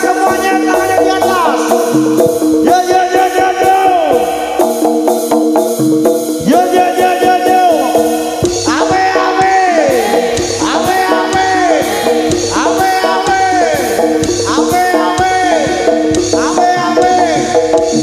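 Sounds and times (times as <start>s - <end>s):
drum beat with held tones: 0.0s - 18.0s.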